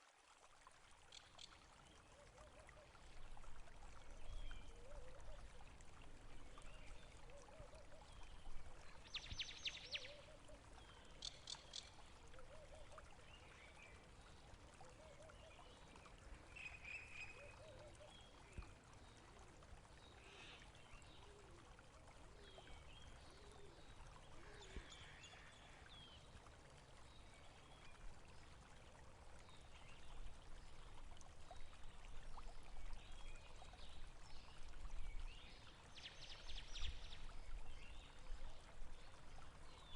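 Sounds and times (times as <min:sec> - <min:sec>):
stream gurgling: 0:00.0 - 0:39.9.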